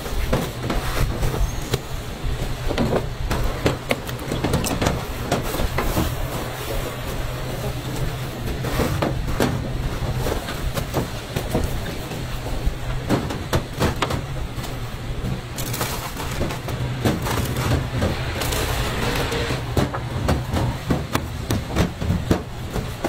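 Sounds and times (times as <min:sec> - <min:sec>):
steady low hum: 0:01.8 - 0:23.0.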